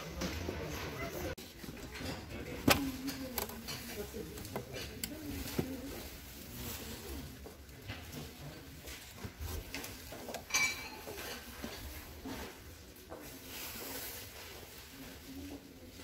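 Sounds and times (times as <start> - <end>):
low murmur of shop: 0.0 - 16.0.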